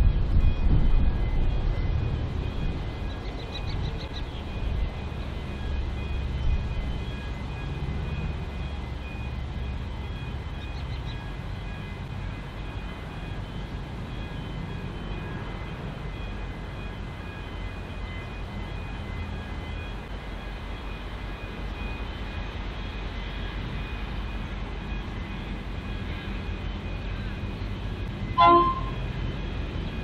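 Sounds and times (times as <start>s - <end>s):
diesel locomotive rumbling: 0.0s - 30.0s.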